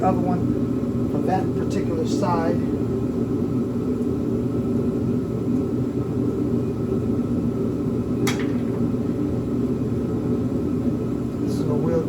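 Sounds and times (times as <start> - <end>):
machine rumbling and humming: 0.0 - 12.0.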